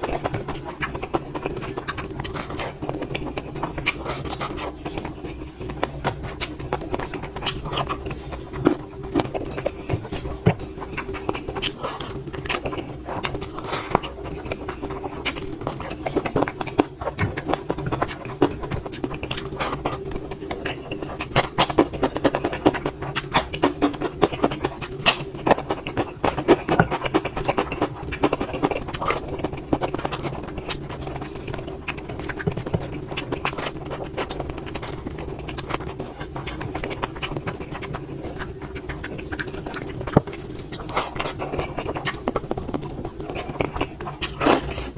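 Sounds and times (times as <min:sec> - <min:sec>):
person chewing: 0:00.0 - 0:44.9.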